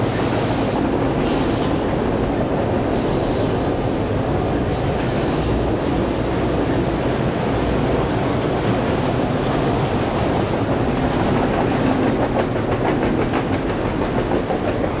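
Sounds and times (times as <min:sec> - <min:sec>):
freight train rumbling by: 0:00.0 - 0:15.0.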